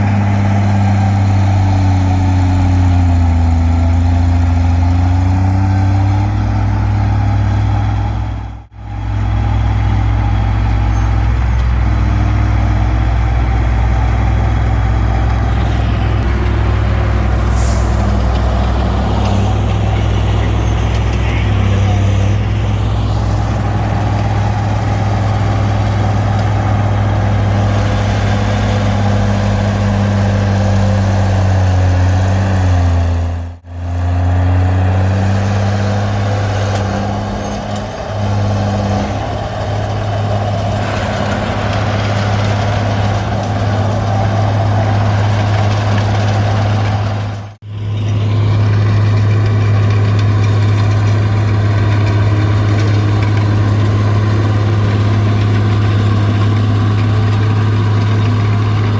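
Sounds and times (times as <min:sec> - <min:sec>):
bulldozer diesel engine droning: 0:00.0 - 0:58.9.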